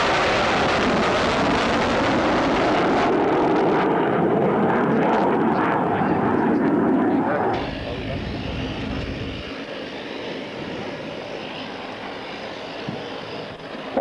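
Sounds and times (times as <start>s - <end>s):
aircraft passing overhead: 0.2s - 14.0s.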